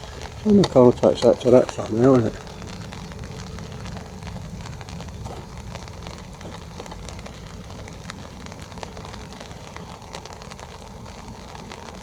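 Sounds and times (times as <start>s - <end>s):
low rumble: 0.0s - 12.0s
rain on an umbrella: 0.0s - 12.0s.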